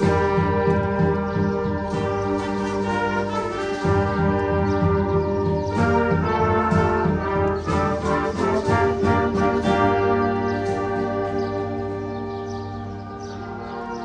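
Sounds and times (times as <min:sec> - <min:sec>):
wind band playing: 0:00.0 - 0:14.0.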